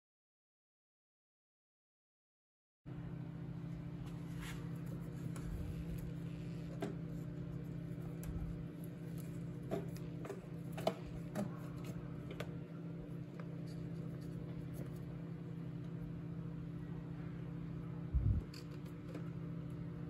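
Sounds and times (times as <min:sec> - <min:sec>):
steady low hum: 0:02.9 - 0:20.0.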